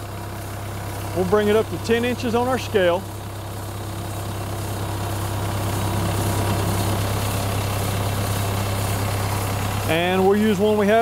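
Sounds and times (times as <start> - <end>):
sawmill engine running: 0.0 - 11.0.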